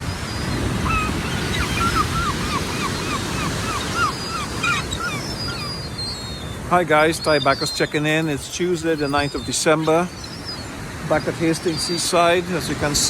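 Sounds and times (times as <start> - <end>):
heavy surf breaking on shore: 0.0 - 13.0
wind: 0.0 - 13.0
gull repeated calls: 0.2 - 13.0.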